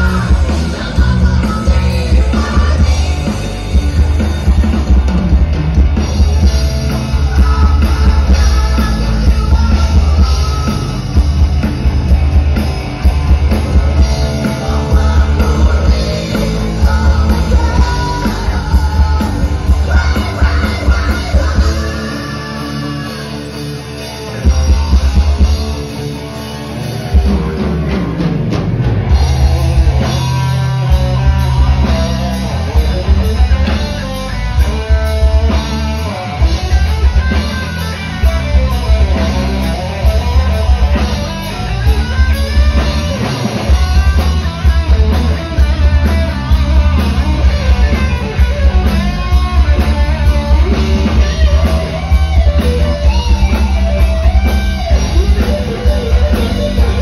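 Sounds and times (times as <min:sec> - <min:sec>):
bass guitar: 0:00.0 - 0:57.0
drum kit: 0:00.0 - 0:57.0
electric guitar: 0:00.0 - 0:57.0.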